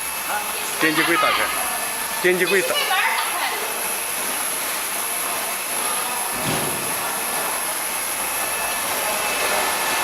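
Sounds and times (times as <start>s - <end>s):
washing machine hissing: 0.0s - 10.0s.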